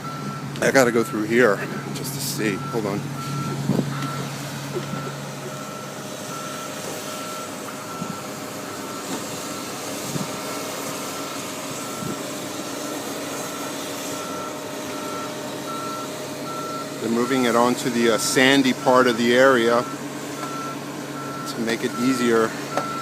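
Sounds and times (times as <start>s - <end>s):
engine running: 0.0s - 23.0s
reversing alarm beeping: 0.0s - 23.0s.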